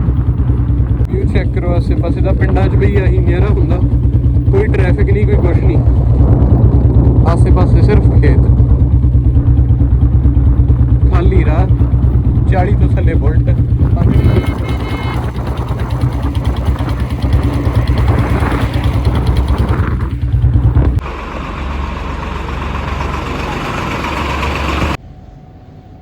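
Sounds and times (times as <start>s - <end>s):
motorcycle engine thumping: 0.0s - 21.1s.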